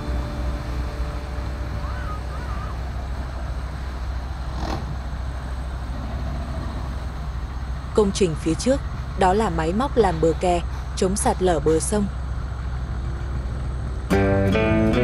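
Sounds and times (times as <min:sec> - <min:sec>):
low outdoor rumble with hiss: 0:00.0 - 0:15.0.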